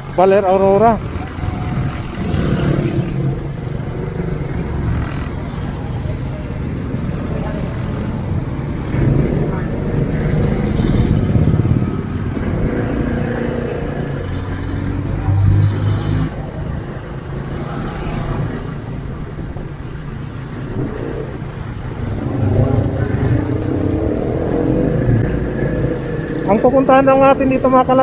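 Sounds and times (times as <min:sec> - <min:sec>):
road and traffic noise: 0:00.0 - 0:28.0
vehicle engine running: 0:00.0 - 0:28.0.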